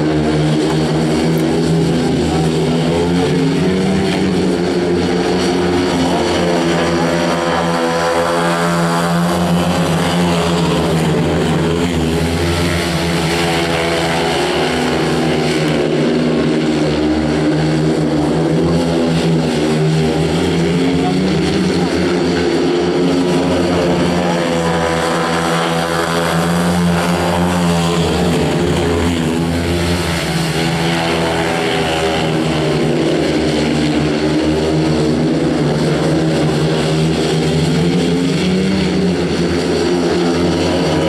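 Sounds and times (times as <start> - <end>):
motorcycle engines racing: 0.0 - 41.0.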